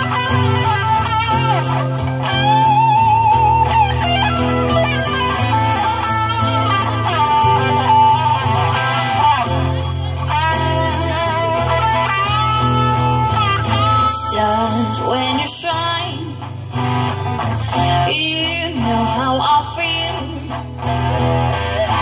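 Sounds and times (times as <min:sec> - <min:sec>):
steady bass line: 0:00.0 - 0:19.4
lead guitar melody with vibrato: 0:00.0 - 0:22.0.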